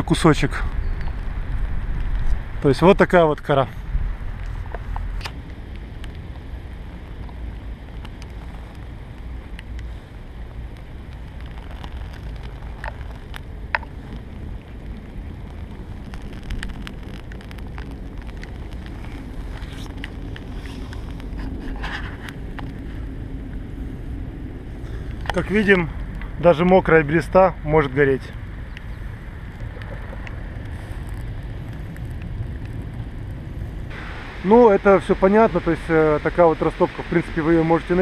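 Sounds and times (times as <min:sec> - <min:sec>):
wind on microphone: 0:00.0 - 0:26.4, 0:28.3 - 0:38.0
bark crackling as it burns: 0:00.1 - 0:38.0.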